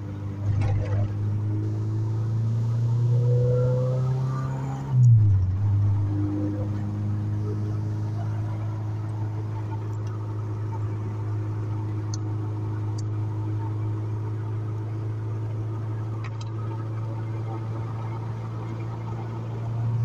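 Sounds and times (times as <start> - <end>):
car engine and road drone: 0.0 - 20.0.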